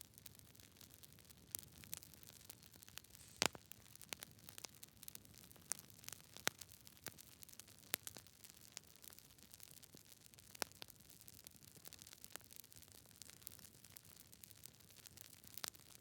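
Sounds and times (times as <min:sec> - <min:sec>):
campfire crackling and popping: 0:00.0 - 0:16.0
faint hiss of burning: 0:00.0 - 0:16.0.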